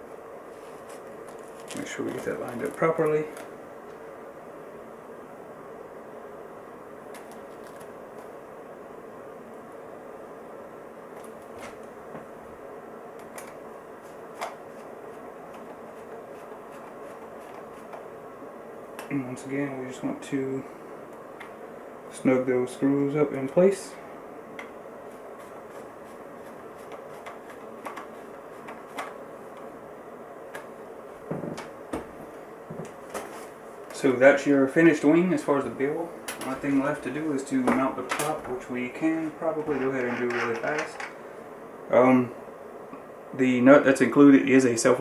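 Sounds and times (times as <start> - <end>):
electric heater fan whirring: 0.0 - 45.0.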